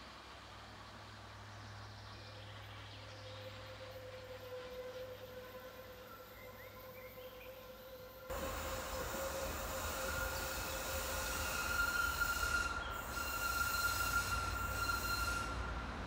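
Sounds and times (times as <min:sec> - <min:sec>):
tram wheels squealing on rails: 0:02.1 - 0:16.0.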